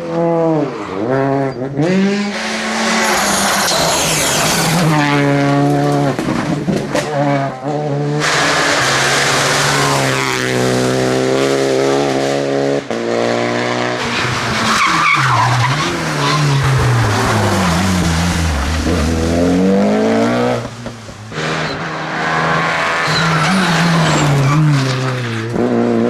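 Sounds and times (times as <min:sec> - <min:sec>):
tyres skidding: 0:00.0 - 0:12.2, 0:13.8 - 0:26.0
rally car engine revving: 0:00.0 - 0:26.0.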